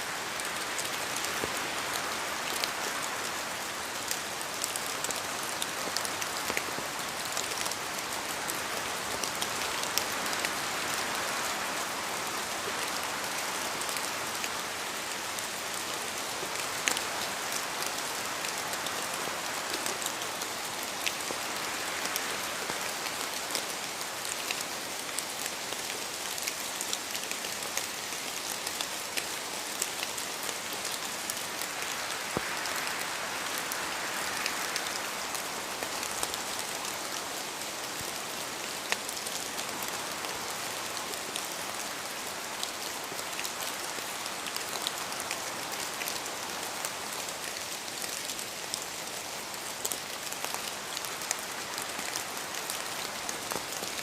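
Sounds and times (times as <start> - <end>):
steady rainfall hiss: 0.0 - 54.0.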